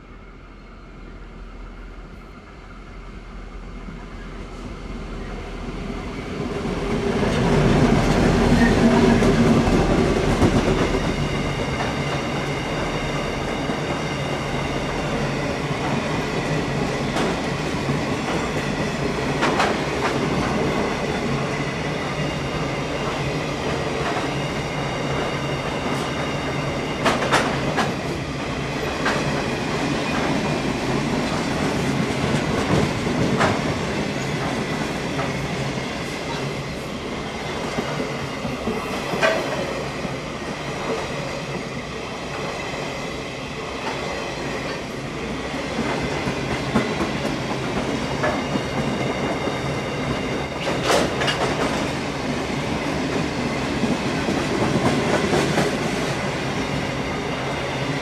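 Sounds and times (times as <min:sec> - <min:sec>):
diesel locomotives passing: 0:00.0 - 0:58.0.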